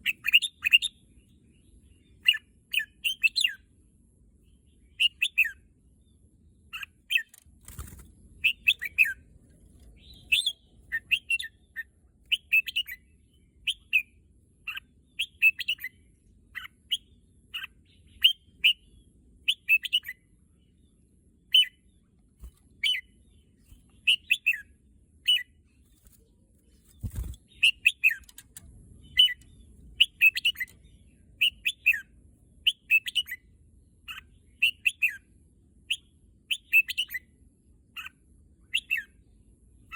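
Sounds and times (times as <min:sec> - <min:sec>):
bulbul chirping song: 0:00.0 - 0:03.7, 0:04.4 - 0:07.4, 0:08.4 - 0:09.3, 0:09.9 - 0:20.8, 0:22.8 - 0:25.6, 0:27.2 - 0:28.4, 0:29.0 - 0:39.4.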